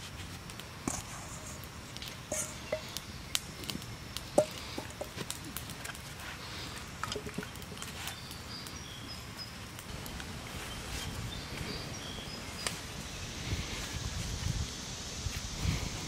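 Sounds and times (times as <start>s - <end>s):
small birds chirping: 0.5s - 5.8s, 6.4s - 15.0s.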